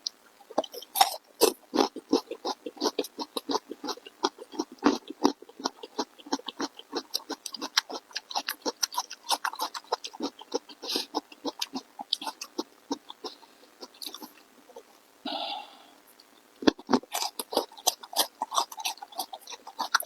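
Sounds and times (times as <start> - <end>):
open-mouth chewing: 0.0 - 15.0, 16.0 - 20.0.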